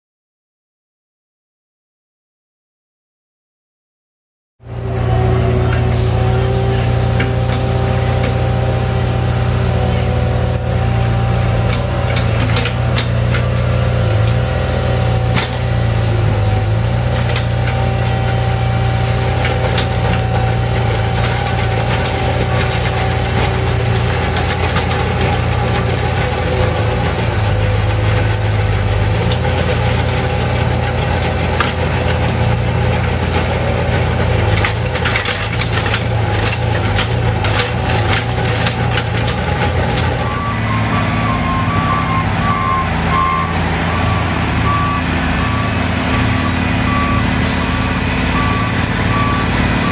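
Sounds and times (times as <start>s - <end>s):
heavy diesel engines running: 4.6s - 49.9s.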